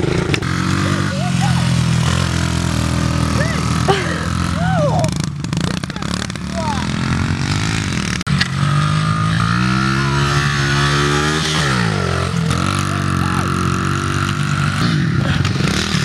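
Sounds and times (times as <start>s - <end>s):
pit bike engine revving: 0.0s - 16.0s.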